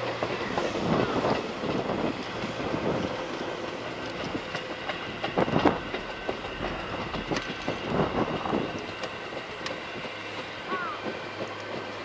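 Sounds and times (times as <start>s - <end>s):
train wheels rolling on rails: 0.0s - 12.0s
wheels clattering over rail joints: 0.0s - 12.0s.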